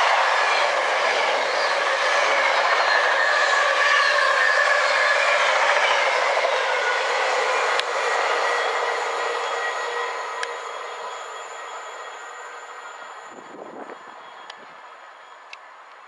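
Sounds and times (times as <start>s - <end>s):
freight train rolling on rails: 0.0s - 16.0s
wheel squeal: 0.5s - 15.5s.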